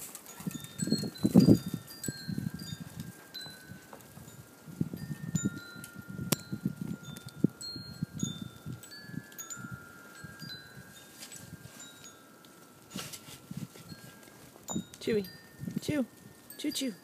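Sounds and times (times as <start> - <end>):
metal wind chimes ringing: 0.0 - 17.0.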